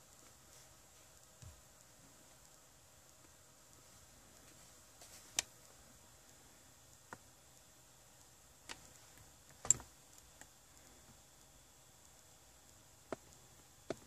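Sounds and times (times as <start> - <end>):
faint steady background: 0.0 - 14.0.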